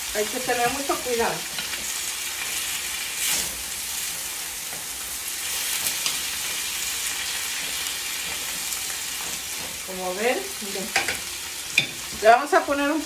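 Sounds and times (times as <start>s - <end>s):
beans sizzling in a frying pan: 0.0s - 13.0s.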